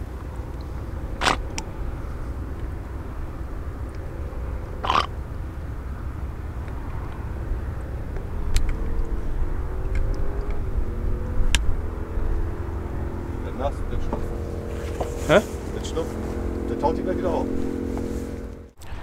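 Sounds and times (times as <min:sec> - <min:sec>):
engine hum: 0:00.0 - 0:19.0
low rumble: 0:00.0 - 0:19.0.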